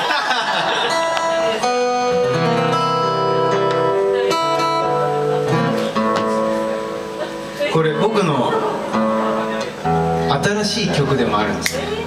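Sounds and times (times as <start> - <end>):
acoustic guitars strumming chords: 0.2 - 12.0.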